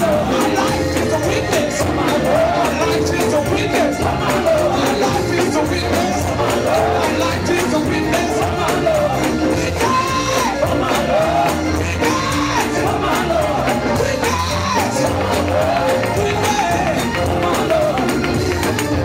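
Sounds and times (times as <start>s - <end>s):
gospel band playing: 0.0s - 19.0s
people singing: 0.0s - 19.0s
congregation clapping: 0.2s - 19.0s.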